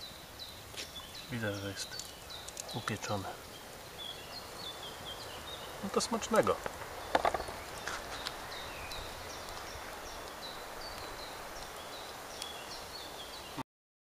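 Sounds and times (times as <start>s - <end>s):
small bird chirping: 0.0s - 13.6s
steady background hiss: 0.0s - 13.6s.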